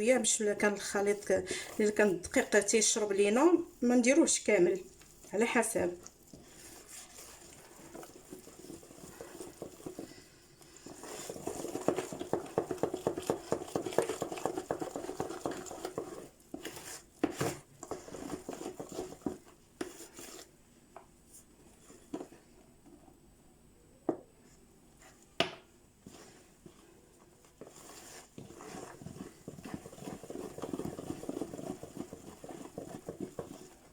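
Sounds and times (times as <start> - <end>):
utensil stirring batter in bowl: 0.0 - 23.3, 24.1 - 33.9.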